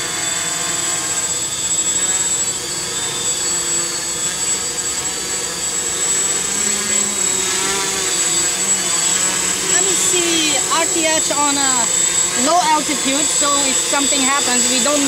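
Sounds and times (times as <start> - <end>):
quadcopter buzzing drone: 0.0 - 15.0
thin high whine: 0.0 - 15.0.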